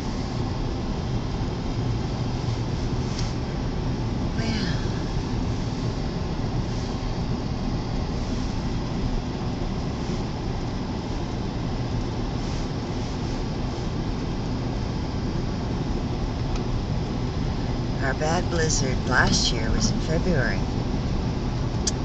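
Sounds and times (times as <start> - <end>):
car cabin rumble and hiss: 0.0 - 22.0.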